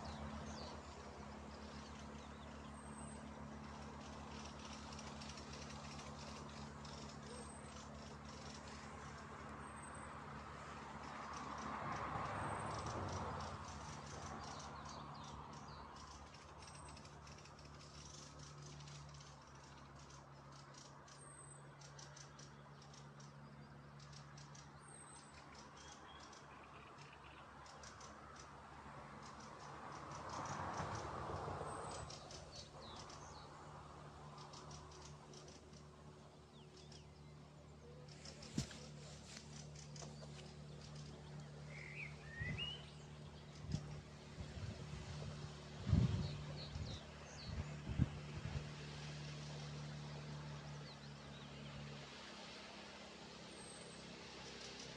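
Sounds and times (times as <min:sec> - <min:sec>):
birds chirping: 0:00.0 - 0:54.9
motorboat engine: 0:00.0 - 0:54.9.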